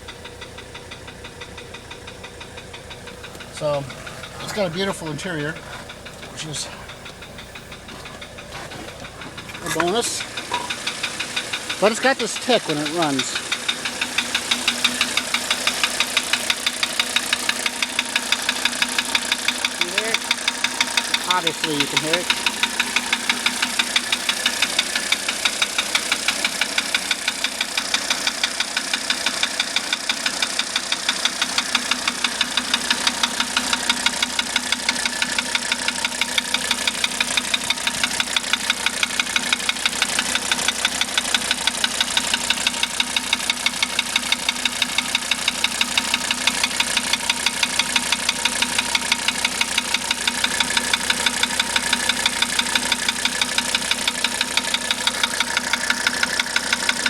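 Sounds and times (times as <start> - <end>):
diesel engine idling: 0.0 - 57.0
sharp regular engine knock: 0.0 - 57.0.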